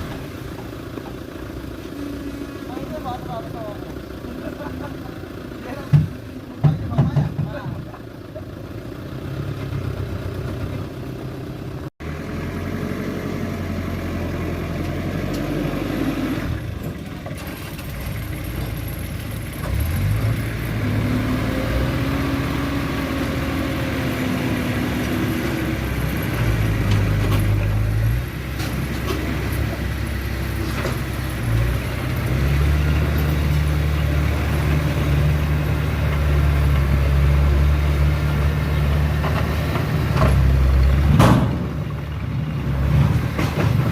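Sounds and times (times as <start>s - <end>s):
bulldozer diesel engine working: 0.0s - 43.9s.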